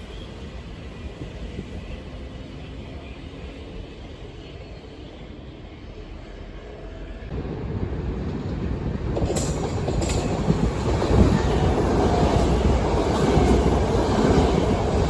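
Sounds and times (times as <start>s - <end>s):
train running past: 0.0s - 15.0s.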